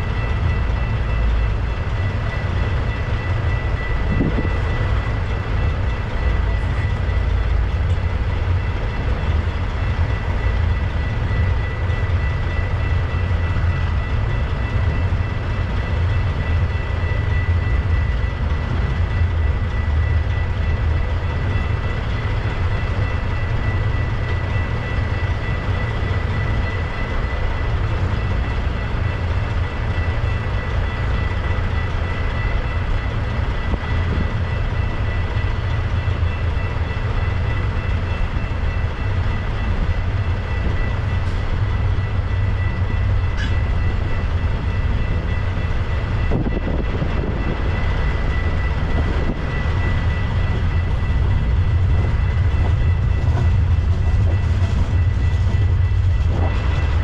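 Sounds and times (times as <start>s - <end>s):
freight train rumbling past: 0.0s - 57.0s
steady high-pitched tone: 0.0s - 57.0s.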